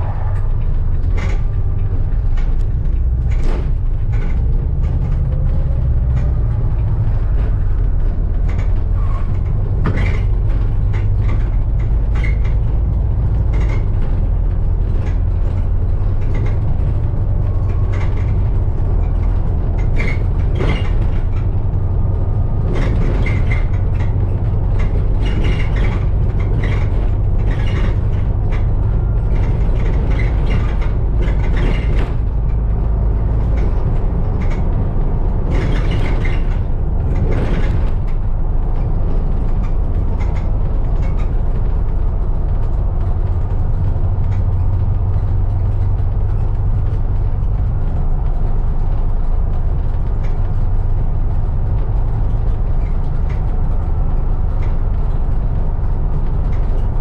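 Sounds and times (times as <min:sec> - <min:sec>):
bodywork rattles and clicks: 0:00.0 - 0:57.0
bus engine and road rumble: 0:00.0 - 0:57.0.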